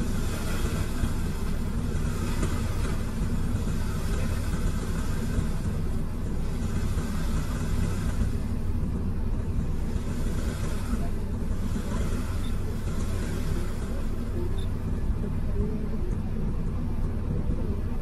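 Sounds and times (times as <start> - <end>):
excavator diesel engine rumble: 0.0 - 18.0.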